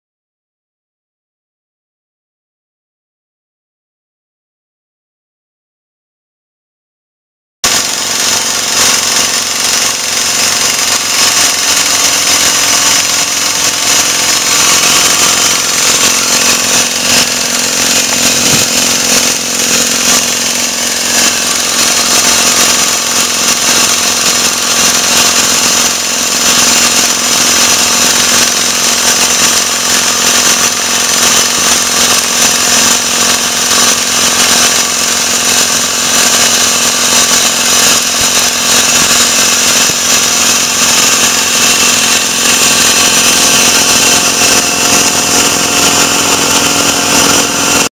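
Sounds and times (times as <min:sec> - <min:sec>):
drilling rig machine noise: 0:07.6 - 0:47.9
steady hum: 0:07.7 - 0:47.9.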